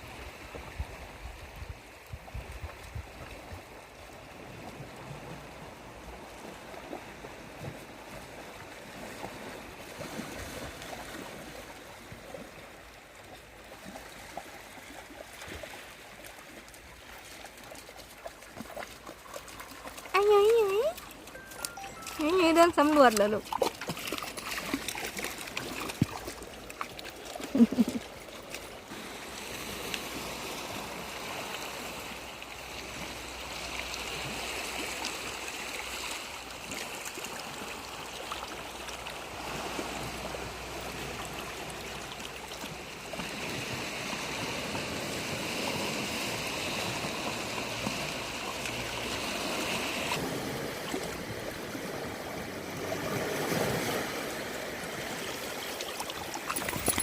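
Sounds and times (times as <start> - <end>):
small waves washing on shore: 0.0 - 57.0.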